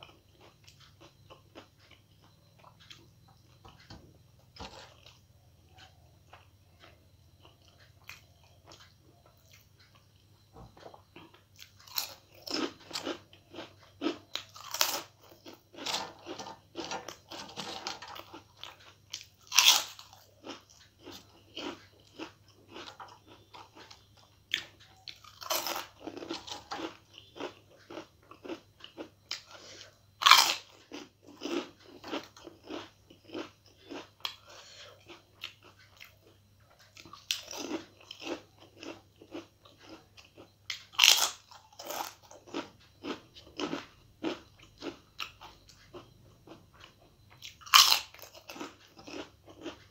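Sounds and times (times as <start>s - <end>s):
crunchy food chewing: 0.0s - 49.9s.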